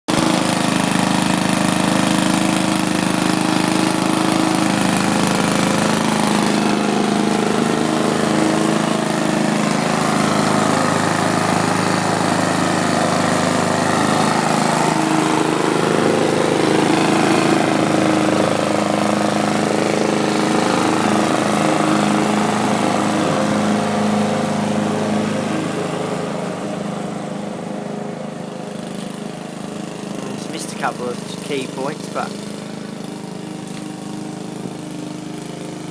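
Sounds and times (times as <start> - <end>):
lawn mower engine running: 0.1 - 35.9.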